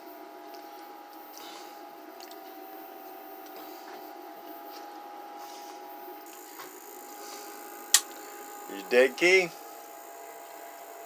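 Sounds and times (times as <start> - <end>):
electrical hum with whine: 0.0 - 11.0.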